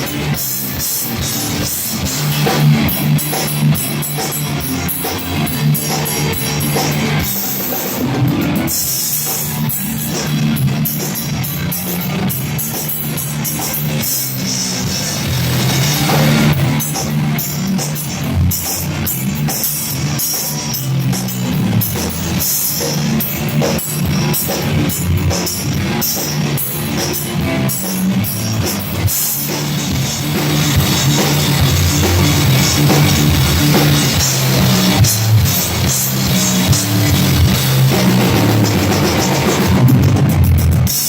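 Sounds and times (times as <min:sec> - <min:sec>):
rock band playing live: 0:00.0 - 0:41.0.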